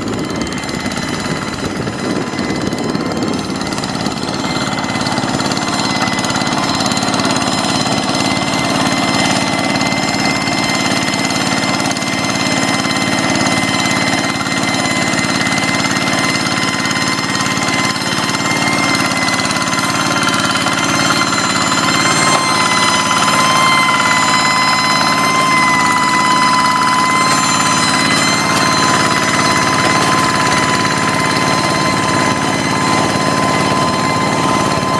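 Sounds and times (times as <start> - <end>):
hand tractor engine running: 0.0 - 34.9
high whine: 0.0 - 34.9.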